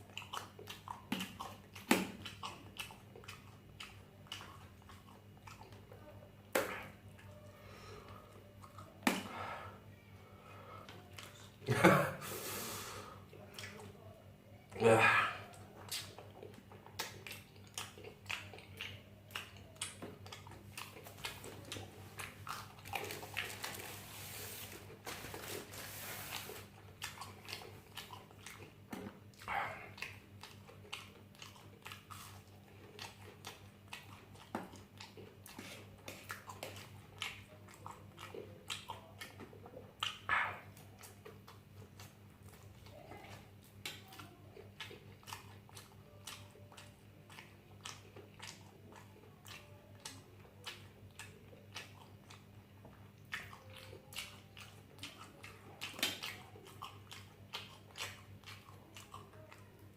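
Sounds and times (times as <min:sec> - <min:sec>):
chewing with wet clicks: 0:00.0 - 0:09.3, 0:10.8 - 0:11.6, 0:13.3 - 0:14.8, 0:15.4 - 0:24.0, 0:26.3 - 0:59.9.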